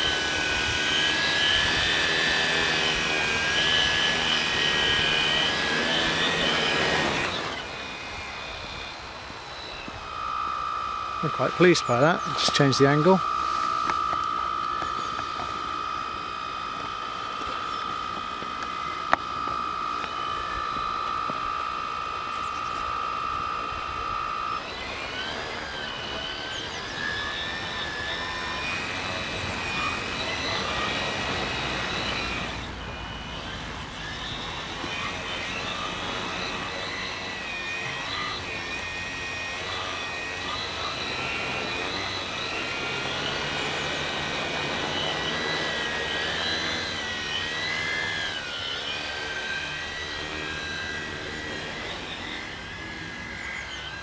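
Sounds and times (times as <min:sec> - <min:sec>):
drone motors and propellers whining: 0:00.0 - 0:54.0.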